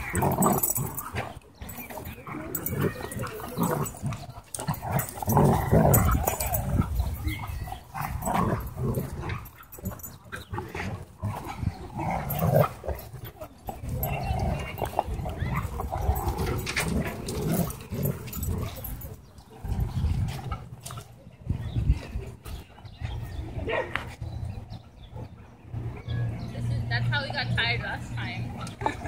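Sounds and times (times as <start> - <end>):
dogs growling in play: 0.0 - 26.5, 28.4 - 29.0.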